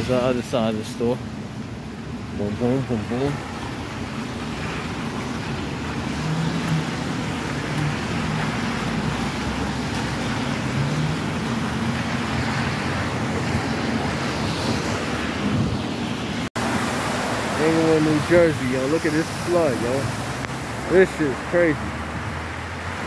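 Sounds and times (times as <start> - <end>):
cars passing on wet road: 0.0 - 23.0.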